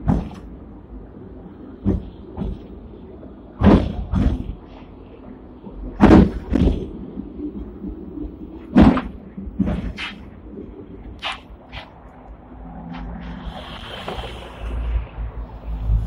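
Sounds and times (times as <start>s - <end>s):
tram low rumble: 0.0s - 16.0s
tram wheels clacking on rail joints: 0.0s - 16.0s.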